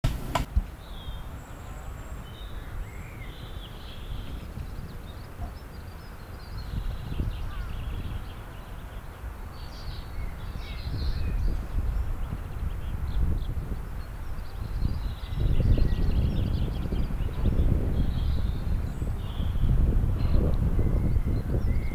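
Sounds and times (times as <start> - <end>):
birds chirping: 0.0 - 21.9
wind rumble on microphone: 0.0 - 21.9.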